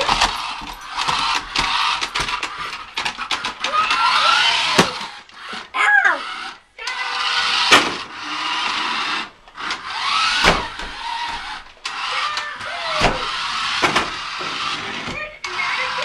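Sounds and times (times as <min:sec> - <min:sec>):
toy car electric motor whirring: 0:00.0 - 0:16.0.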